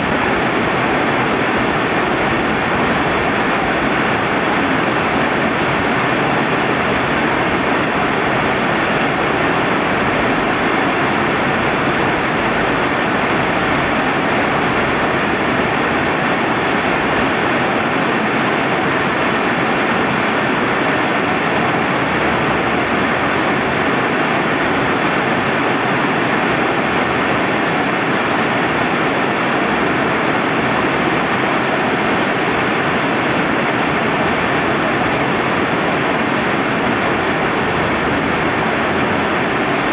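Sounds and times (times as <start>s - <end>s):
rushing river water: 0.0s - 39.9s
steady rain: 0.0s - 39.9s.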